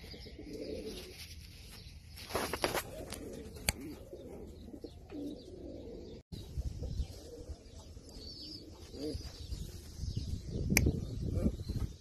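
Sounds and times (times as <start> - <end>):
pigeons cooing: 0.0 - 1.2, 2.3 - 6.2, 6.8 - 12.0.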